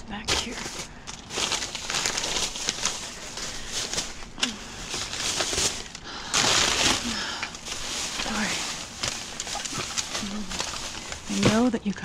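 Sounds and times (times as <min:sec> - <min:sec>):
plastic bags and wrappers rustling: 0:00.0 - 0:12.0.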